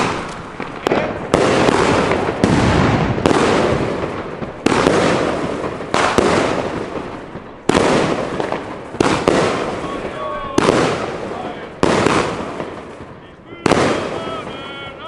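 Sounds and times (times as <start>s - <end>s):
firework shots: 0.0s - 15.0s
shells bursting and echoing: 0.0s - 15.0s.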